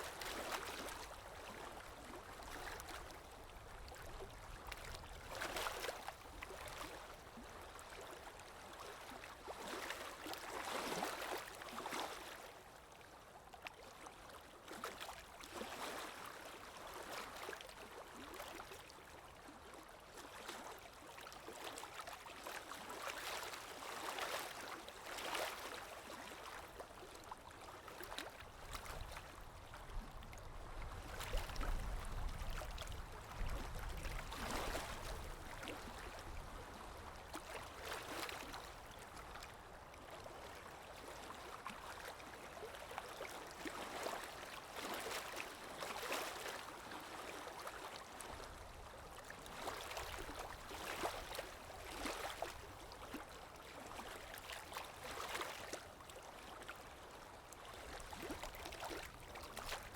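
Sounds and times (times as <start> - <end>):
water lapping in small waves: 0.0 - 59.9.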